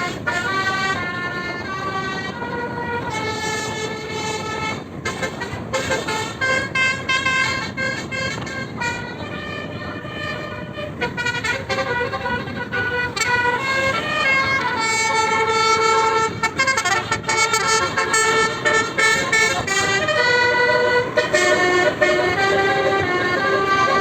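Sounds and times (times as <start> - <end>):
bus multi-tone horn tune: 0.0 - 24.0.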